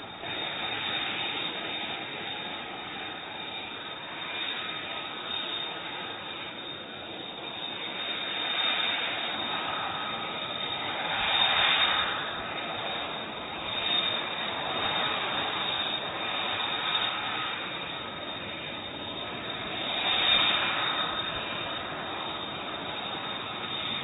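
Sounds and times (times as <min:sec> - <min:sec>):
jet engine running: 0:00.0 - 0:24.0.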